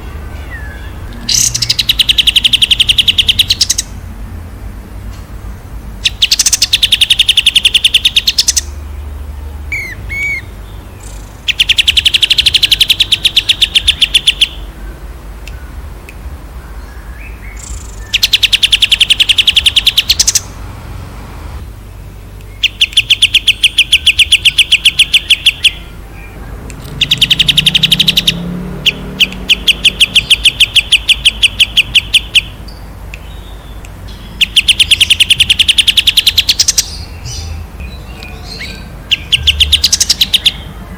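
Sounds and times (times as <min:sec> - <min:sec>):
songbird rapid high notes: 0:00.0 - 0:04.0, 0:09.6 - 0:20.6, 0:22.2 - 0:40.9.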